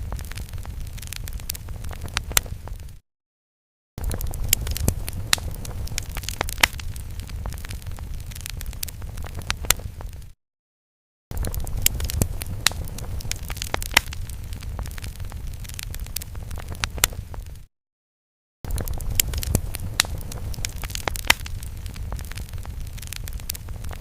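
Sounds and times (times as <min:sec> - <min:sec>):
fire crackling and rumbling: 0:00.0 - 0:03.0, 0:04.0 - 0:10.4, 0:11.3 - 0:17.7, 0:18.7 - 0:24.0.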